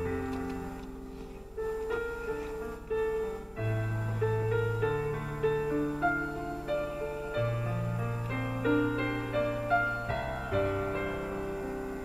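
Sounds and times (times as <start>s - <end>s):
held bass notes: 0.0s - 12.0s
slow piano melody: 0.0s - 12.0s.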